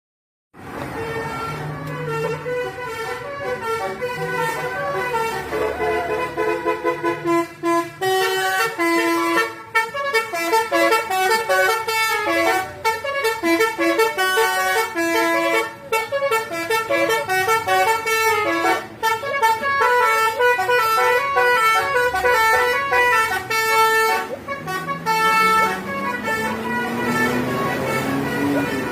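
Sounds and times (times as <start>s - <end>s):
bus horn playing a melody: 0.6s - 28.9s.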